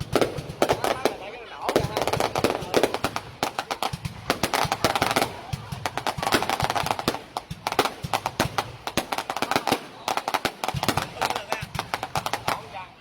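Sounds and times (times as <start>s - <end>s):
crowd voices: 0.0s - 13.0s
fireworks crackling and banging: 0.0s - 13.0s.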